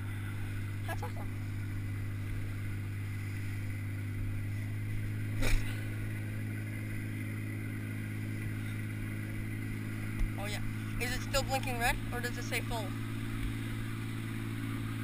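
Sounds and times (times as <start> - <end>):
outboard engine droning: 0.0 - 15.0.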